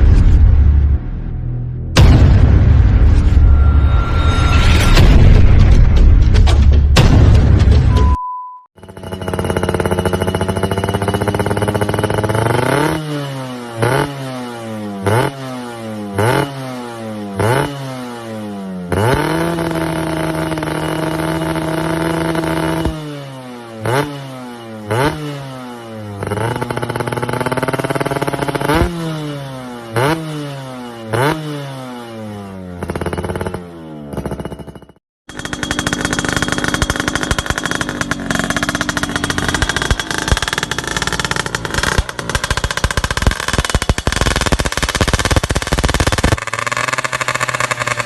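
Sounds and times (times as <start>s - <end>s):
two-stroke engine revving: 8.8s - 48.0s.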